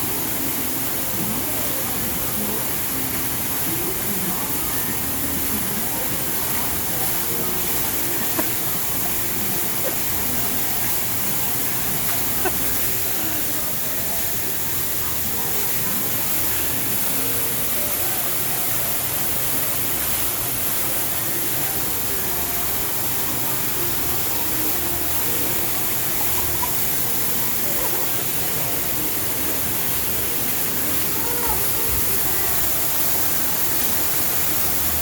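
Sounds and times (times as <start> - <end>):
faint distant voices: 0.0 - 35.0
falling water rushing: 0.0 - 35.0.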